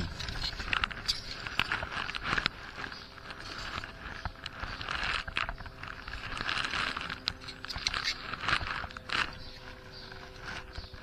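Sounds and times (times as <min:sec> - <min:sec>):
faint steady hum: 0:00.0 - 0:11.0
scraping circuit board: 0:00.0 - 0:11.0.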